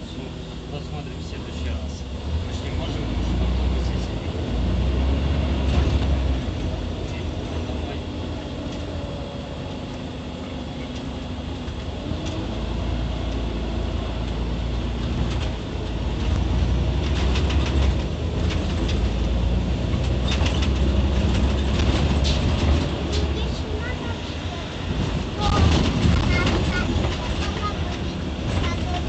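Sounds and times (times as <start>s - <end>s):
bus engine rumble: 0.0s - 29.0s.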